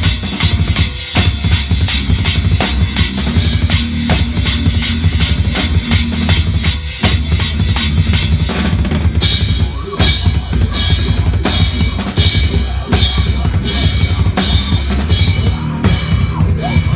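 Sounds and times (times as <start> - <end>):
band playing: 0.0 - 16.9
drum kit bass drum and snare: 0.0 - 16.9.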